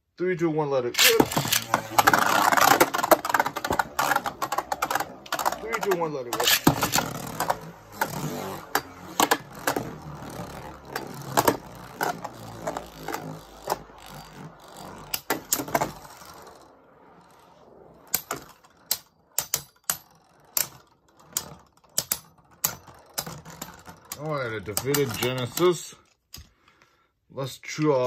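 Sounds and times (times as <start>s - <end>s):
tops clacking together: 1.0s - 16.4s, 18.1s - 26.8s
spinning tops whirring: 1.0s - 26.0s.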